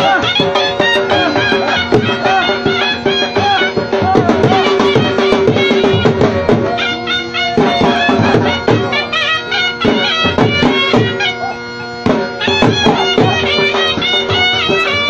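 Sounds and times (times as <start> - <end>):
drum beats: 0.0 - 15.0
wind instrument melody: 0.0 - 15.0.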